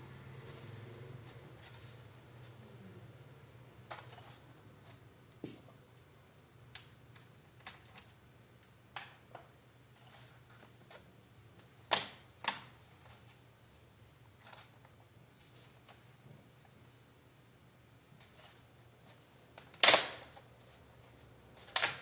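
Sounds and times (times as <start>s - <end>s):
faint low hum: 0.0s - 21.8s.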